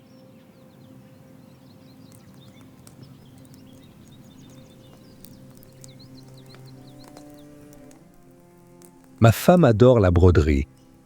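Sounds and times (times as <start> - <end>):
birdlike chirps: 0.0 - 9.7.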